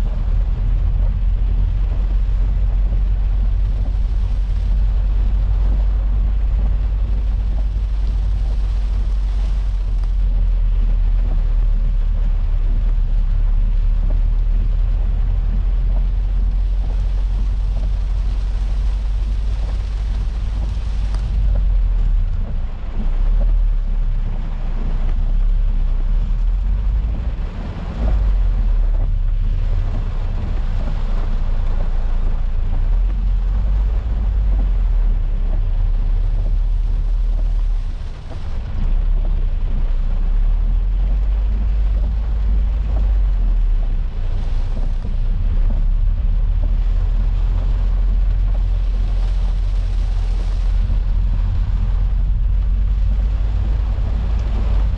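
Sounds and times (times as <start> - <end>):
rain hissing on a car: 0.0 - 54.9
road and engine rumble: 0.0 - 54.9.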